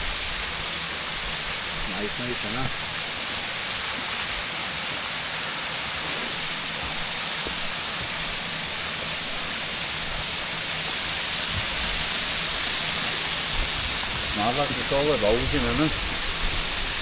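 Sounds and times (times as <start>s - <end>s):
waterfall pouring: 0.0s - 17.0s.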